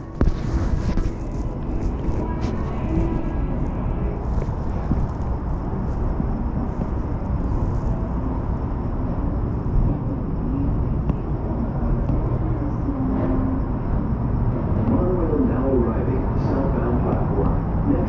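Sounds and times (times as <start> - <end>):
monorail train rumbling: 0.0 - 18.0.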